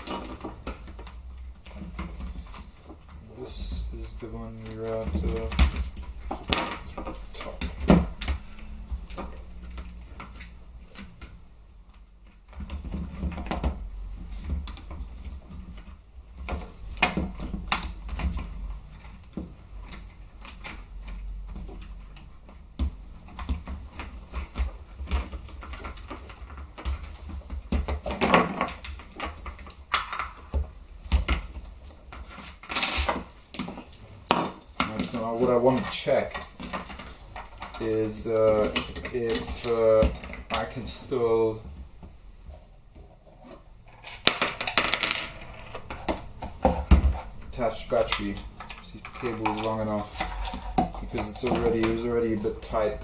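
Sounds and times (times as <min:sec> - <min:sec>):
clicks taps and rustles of parts: 0:00.0 - 0:53.0
low background hum: 0:00.0 - 0:53.0.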